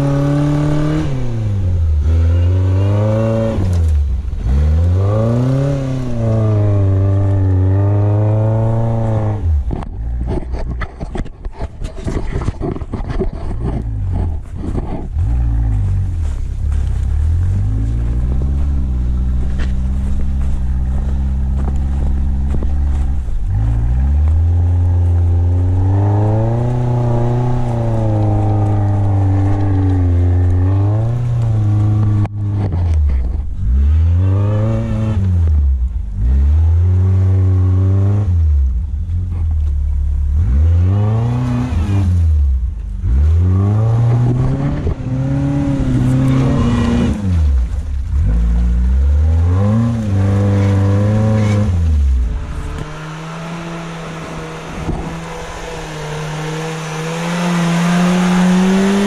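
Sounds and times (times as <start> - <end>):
engine revving up and down: 0.0 - 59.0.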